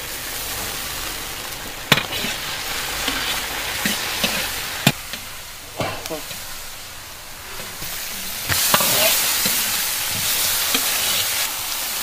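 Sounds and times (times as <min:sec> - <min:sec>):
meat sizzling in a wok: 0:00.0 - 0:12.0
metal ladle scraping wok: 0:00.5 - 0:11.5.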